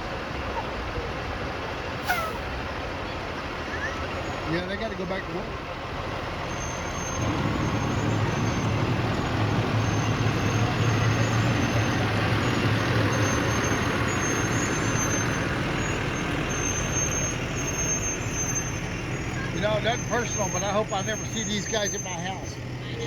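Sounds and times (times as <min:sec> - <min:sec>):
fire engine rumbling: 0:00.0 - 0:23.0.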